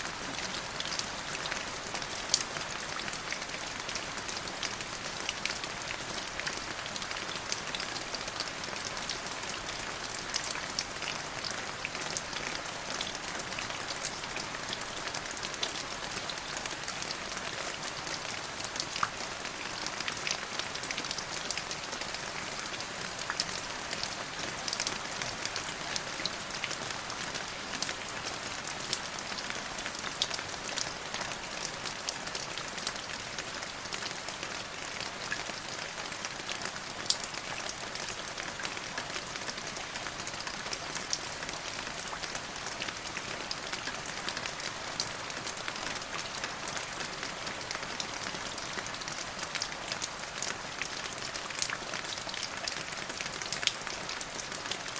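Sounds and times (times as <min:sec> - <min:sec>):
rain on a hard surface: 0:00.0 - 0:54.9.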